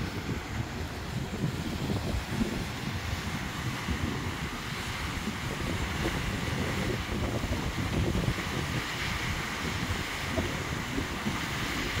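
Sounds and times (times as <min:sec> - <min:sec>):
small waterfall rushing: 0:00.0 - 0:12.0
wind buffeting microphone: 0:00.0 - 0:12.0.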